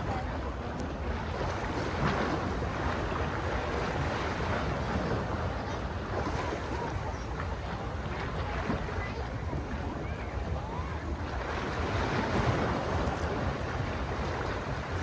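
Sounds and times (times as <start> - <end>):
sea waves washing onto shore: 0.0 - 15.0
wind buffeting microphone: 0.0 - 15.0.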